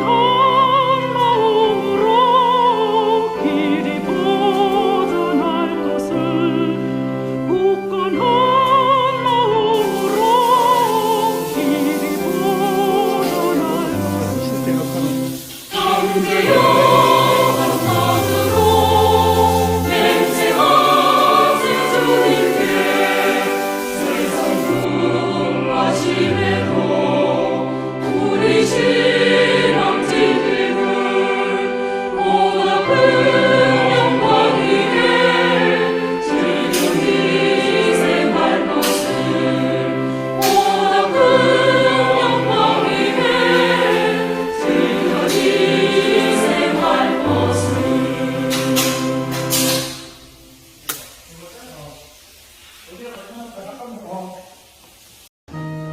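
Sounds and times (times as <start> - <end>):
choir singing: 0.0 - 50.6.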